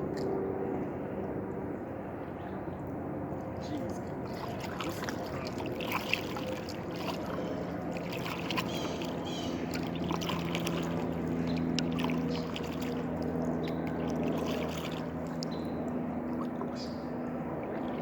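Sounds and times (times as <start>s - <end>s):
steady low hum: 0.0s - 18.0s
water lapping and dripping: 3.3s - 18.0s.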